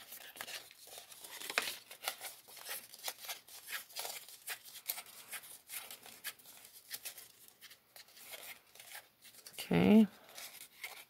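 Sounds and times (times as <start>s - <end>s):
paper strip rustling and creasing: 0.0s - 11.0s.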